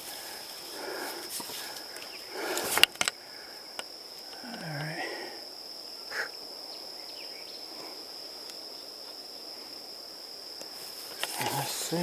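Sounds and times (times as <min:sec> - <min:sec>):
crickets droning: 0:00.0 - 0:12.0
insect chirp: 0:00.0 - 0:12.0.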